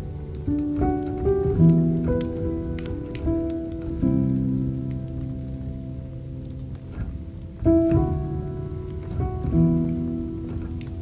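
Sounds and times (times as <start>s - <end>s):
calm solo piano: 0.0s - 11.0s
wood fire crackling: 0.0s - 11.0s.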